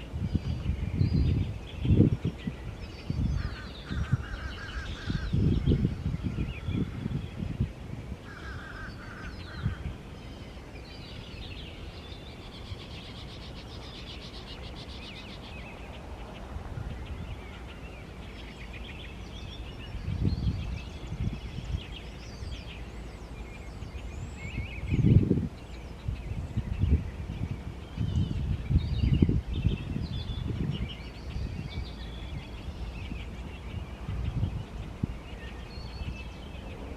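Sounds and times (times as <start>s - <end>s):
songbirds singing and chirping: 0.0s - 36.9s
wind buffeting microphone: 0.0s - 36.9s.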